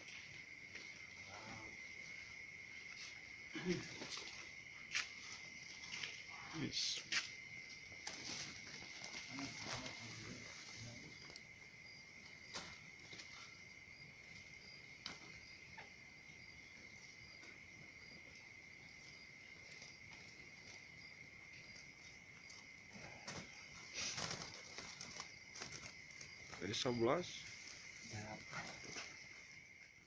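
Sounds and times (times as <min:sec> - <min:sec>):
cricket-like trill: 0:00.0 - 0:30.0.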